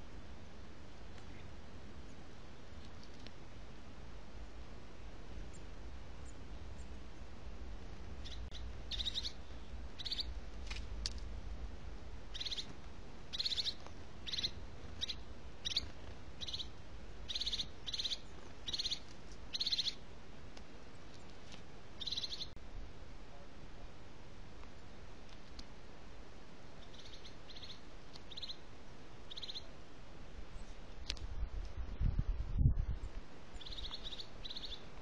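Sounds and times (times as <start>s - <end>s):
steady low rumble: 0.0s - 21.1s, 21.7s - 34.7s.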